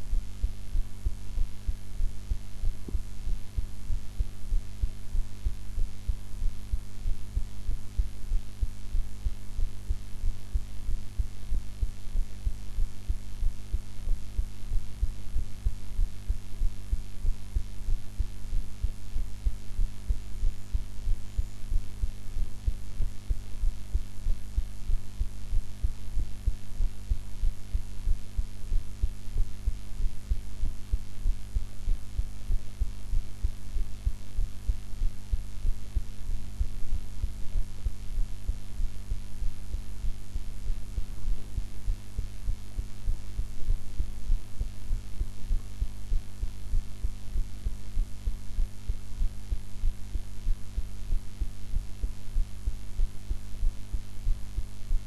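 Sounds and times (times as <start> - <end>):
heartbeat thuds: 0.0 - 55.0
steady low hum: 0.0 - 55.0.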